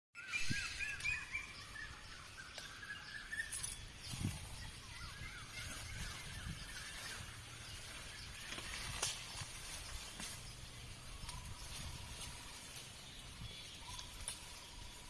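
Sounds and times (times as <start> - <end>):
bird calling: 0.2 - 15.0.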